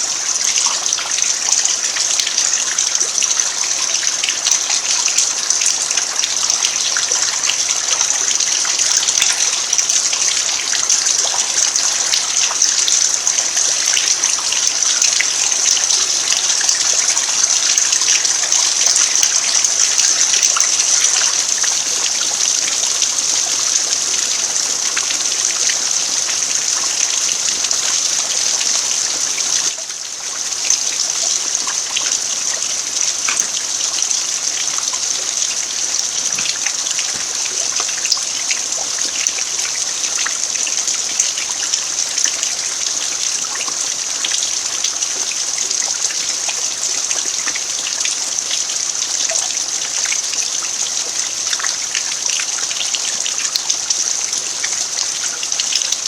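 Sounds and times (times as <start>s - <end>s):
rain falling on dirt: 0.0s - 56.0s.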